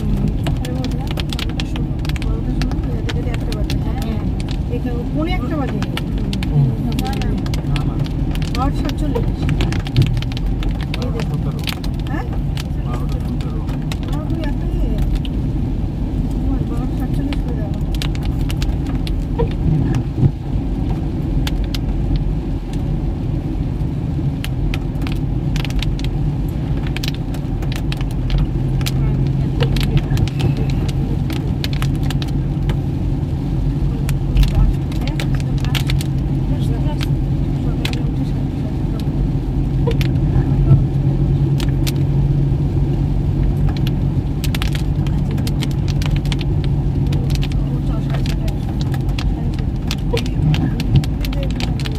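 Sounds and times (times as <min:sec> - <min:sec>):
engine and road rumble: 0:00.0 - 0:51.9.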